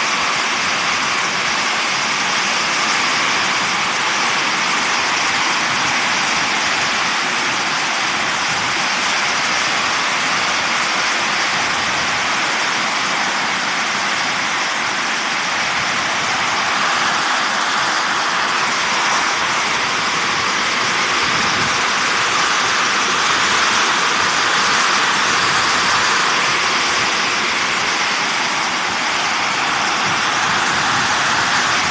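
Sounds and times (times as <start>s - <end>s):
pouring rain: 0.0s - 31.9s
strong wind: 0.0s - 31.9s.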